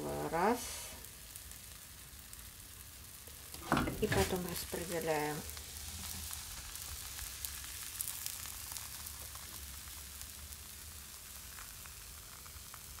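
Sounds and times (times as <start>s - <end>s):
batter sizzling in frying pan: 0.0s - 13.0s.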